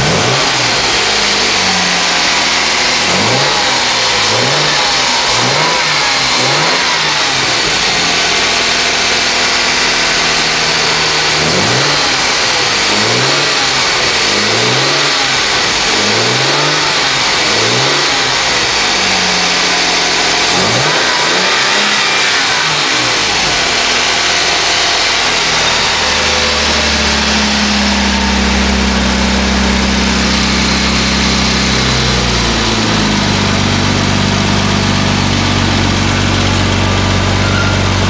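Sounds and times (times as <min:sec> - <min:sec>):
car engine revving and idling: 0:00.0 - 0:38.0.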